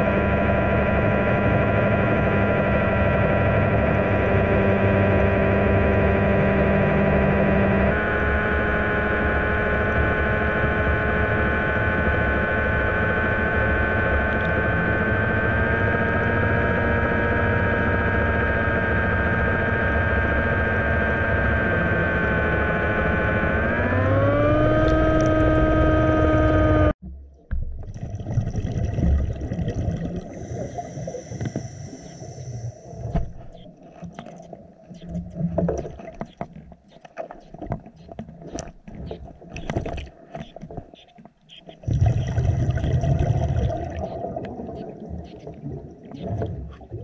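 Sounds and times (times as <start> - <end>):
underwater scooter motor whine: 0.0 - 28.0, 29.1 - 41.0, 41.7 - 47.0.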